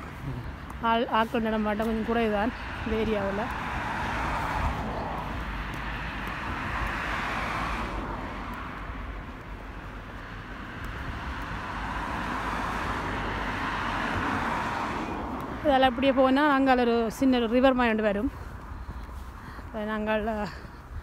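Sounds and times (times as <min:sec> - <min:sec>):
cars passing: 0:00.0 - 0:21.0
low traffic rumble: 0:00.0 - 0:21.0.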